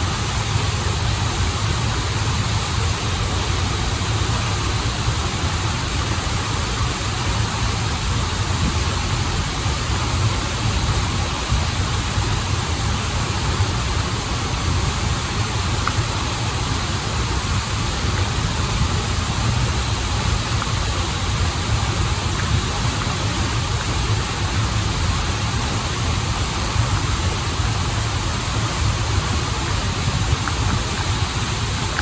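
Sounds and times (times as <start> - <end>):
waterfall and rushing stream: 0.0 - 32.0.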